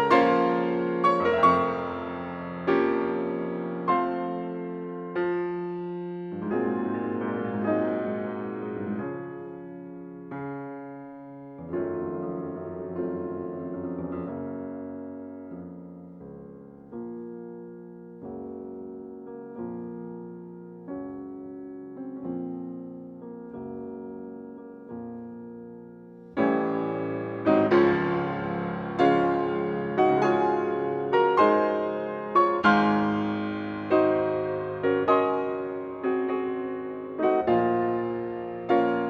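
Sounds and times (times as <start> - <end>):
slow piano chords: 0.0 - 39.0.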